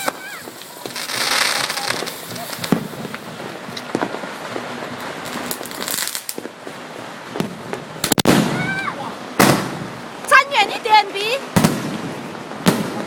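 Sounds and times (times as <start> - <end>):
fireworks crackling: 0.0 - 13.0
loud firework bangs: 0.0 - 13.0.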